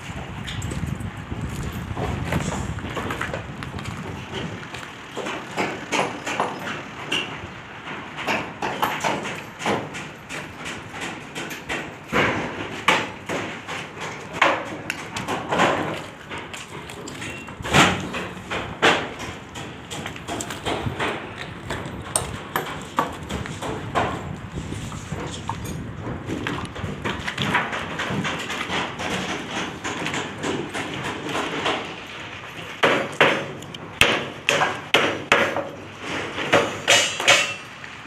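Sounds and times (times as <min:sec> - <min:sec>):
steady background noise: 0:00.0 - 0:38.0.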